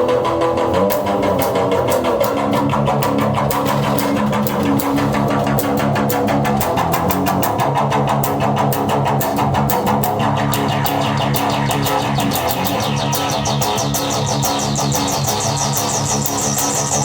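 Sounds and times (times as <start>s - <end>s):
fast ticking pulse: 0.0s - 17.0s
filtered guitar low sustained notes: 0.0s - 17.0s.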